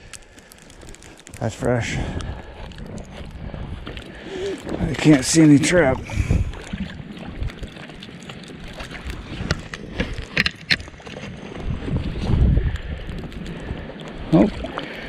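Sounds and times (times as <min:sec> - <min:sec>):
wind rumble on microphone: 0:00.0 - 0:15.0
water sloshing around legs: 0:00.3 - 0:15.0.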